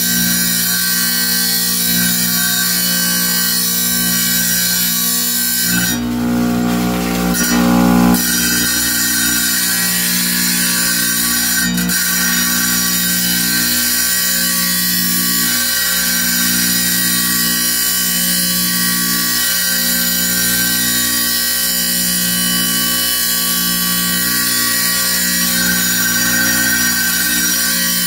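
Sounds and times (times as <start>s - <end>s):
wet tile saw running: 0.0s - 28.0s.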